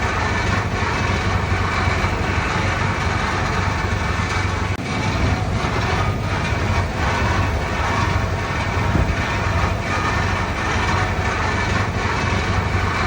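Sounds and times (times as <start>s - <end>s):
bulldozer diesel engine drone: 0.0s - 13.0s
steel tracks clanking: 0.0s - 13.0s.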